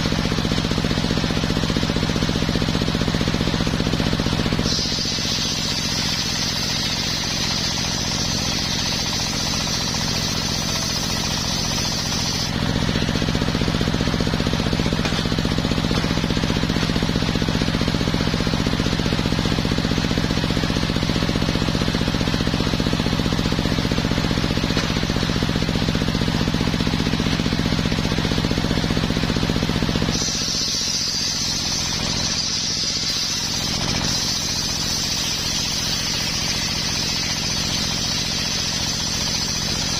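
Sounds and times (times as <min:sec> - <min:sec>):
circular saw whine: 0:00.0 - 0:39.9
engine drone: 0:00.0 - 0:39.9.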